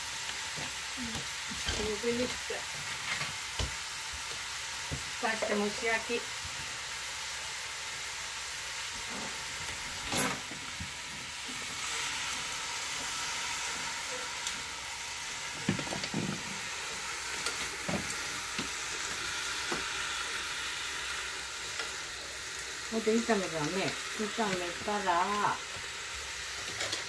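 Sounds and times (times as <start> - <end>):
shoots sizzling in a saucepan: 0.0 - 27.0.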